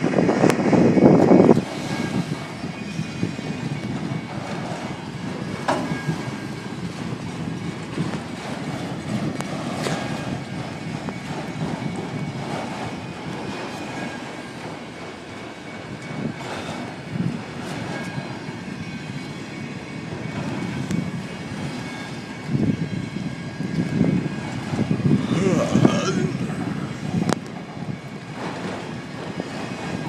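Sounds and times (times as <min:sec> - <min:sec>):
sharp clack of train: 0:00.0 - 0:30.0
train wheels rumbling on rail: 0:00.0 - 0:30.0.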